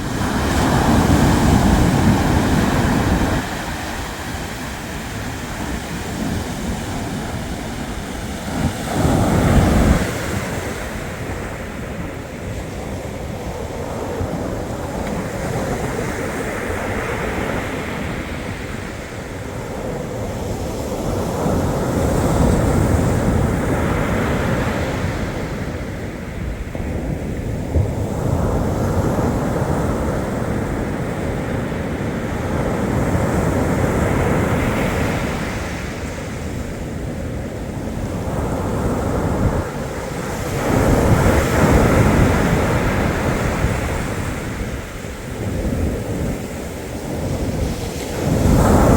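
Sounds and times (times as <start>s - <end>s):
surf washing onto shore: 0.0s - 48.9s.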